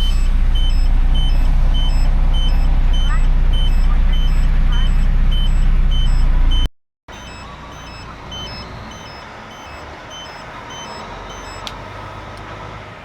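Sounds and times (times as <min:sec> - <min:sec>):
electronic beeping: 0:00.0 - 0:11.7
truck engine running: 0:00.0 - 0:13.0.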